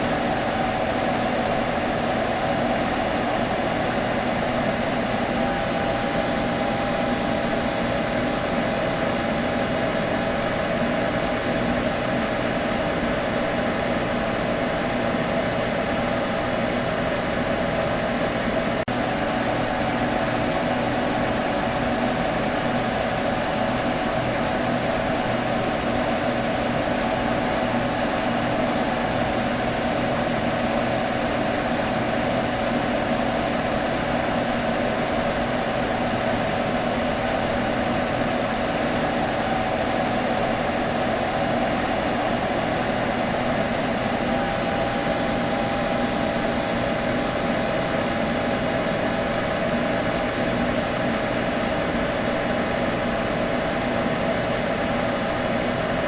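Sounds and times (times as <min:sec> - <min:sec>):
computer fan whirring: 0:00.0 - 0:56.0.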